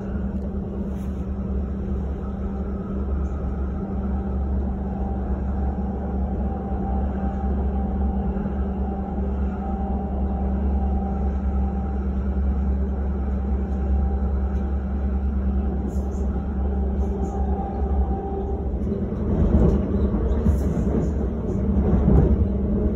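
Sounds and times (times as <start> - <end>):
train rumble and hum: 0.0 - 22.9.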